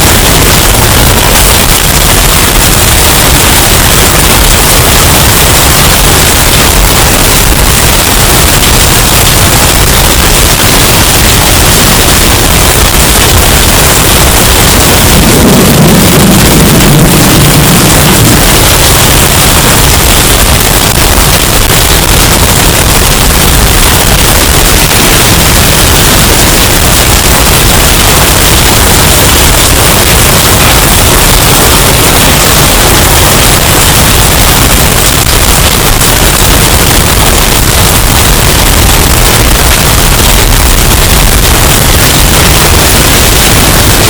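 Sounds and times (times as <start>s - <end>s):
distorted hurricane wind: 0.0s - 44.0s.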